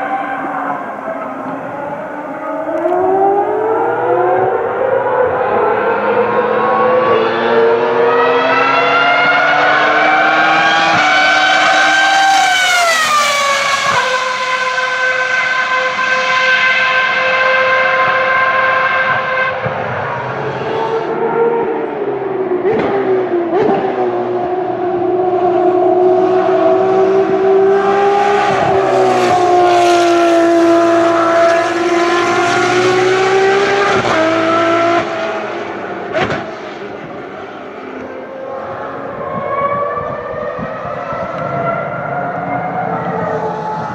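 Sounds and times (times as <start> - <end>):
race car engine at high revs: 0.0 - 43.9.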